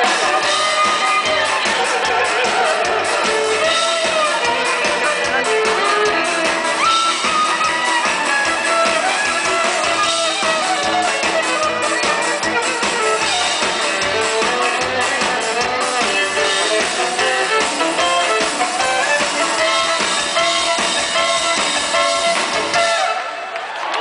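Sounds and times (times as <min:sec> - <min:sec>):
gypsy-pop band playing: 0:00.0 - 0:24.0.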